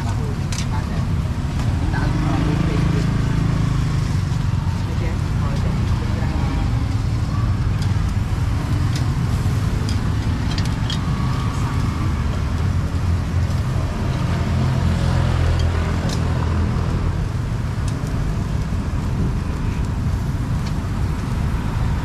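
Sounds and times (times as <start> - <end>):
vehicle engines rumbling: 0.0 - 22.0.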